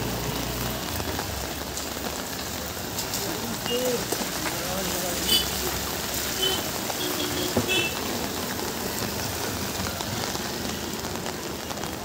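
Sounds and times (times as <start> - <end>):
rain falling on wet street: 0.0 - 12.0
vehicles passing through water: 0.0 - 12.0.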